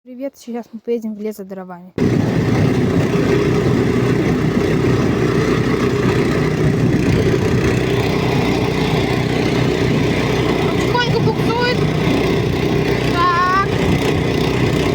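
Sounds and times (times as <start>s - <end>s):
vehicle engine running: 2.0s - 14.9s.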